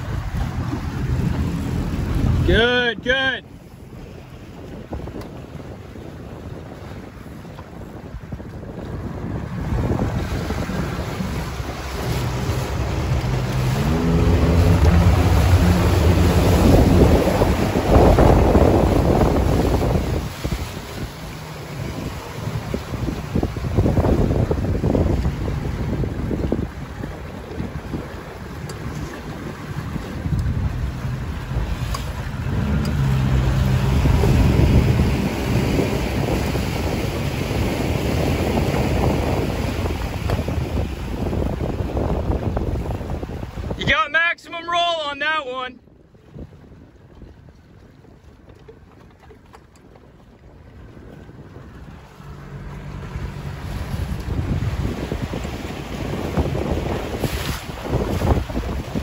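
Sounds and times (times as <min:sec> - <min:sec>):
wind on microphone: 0:00.0 - 0:44.0, 0:45.8 - 0:59.0
outboard motor running: 0:00.0 - 0:59.0
rushing water: 0:00.0 - 0:59.0.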